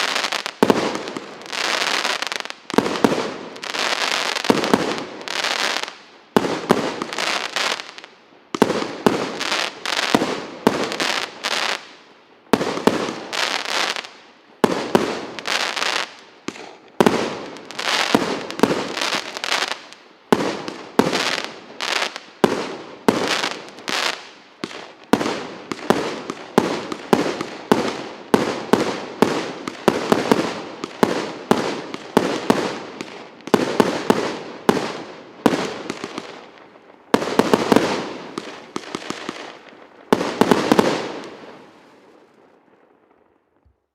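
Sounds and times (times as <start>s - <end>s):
fireworks bangs: 0.0s - 12.0s, 12.6s - 43.2s.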